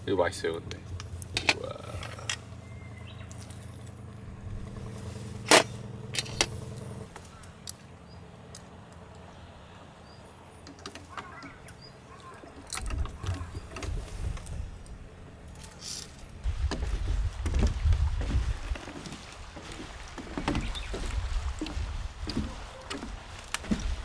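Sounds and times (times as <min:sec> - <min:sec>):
low motor hum: 0:00.6 - 0:24.0.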